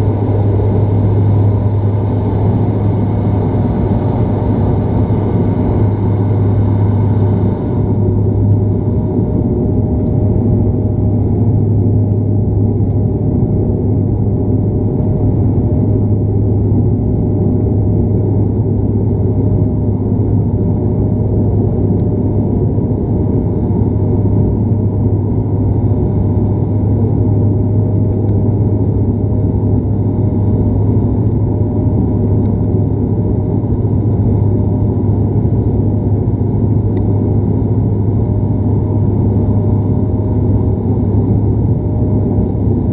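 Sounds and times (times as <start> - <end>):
turboprop cabin drone: 0.0 - 42.9.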